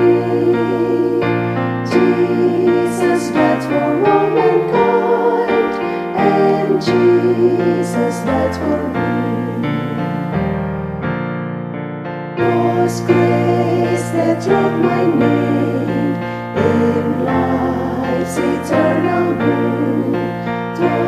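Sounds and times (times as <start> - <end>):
hymn tune on keyboard: 0.0 - 11.4, 12.3 - 21.0.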